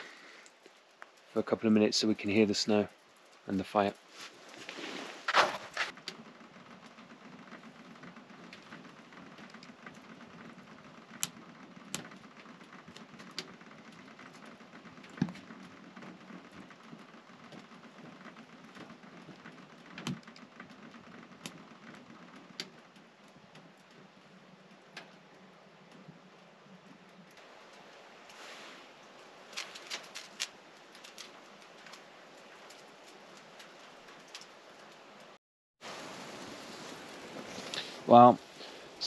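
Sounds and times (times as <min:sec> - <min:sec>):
snow pattering on awning: 0:00.0 - 0:39.0
wood fire crackling and popping: 0:00.0 - 0:39.0.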